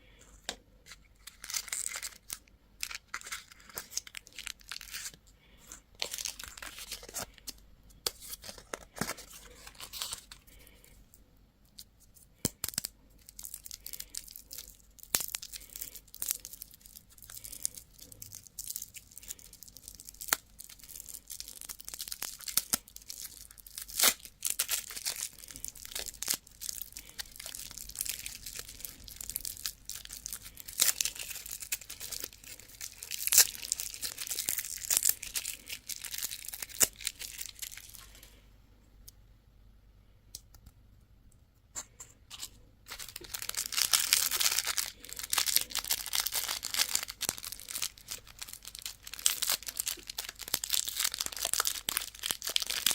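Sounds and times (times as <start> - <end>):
wrappers crackling and tearing: 0.8 - 5.2, 5.9 - 10.8, 12.4 - 38.3, 42.3 - 52.9.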